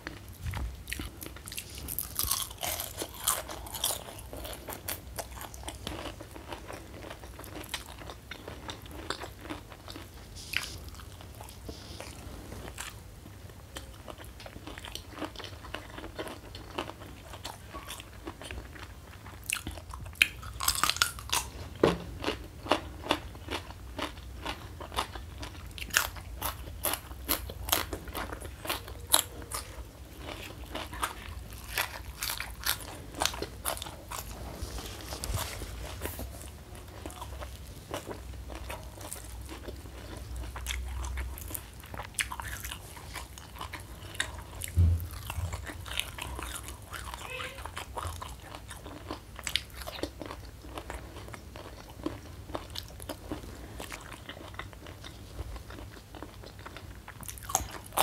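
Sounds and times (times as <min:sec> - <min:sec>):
crunchy chewing: 0:00.0 - 0:21.6, 0:22.2 - 0:58.0.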